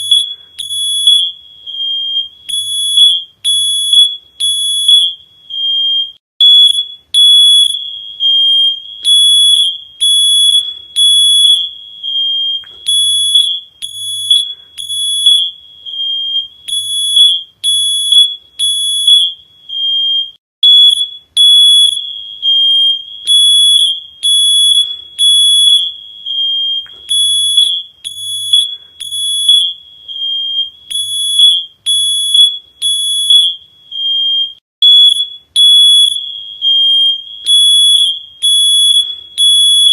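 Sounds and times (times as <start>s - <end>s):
electronic alarm beeping: 0.0s - 39.9s.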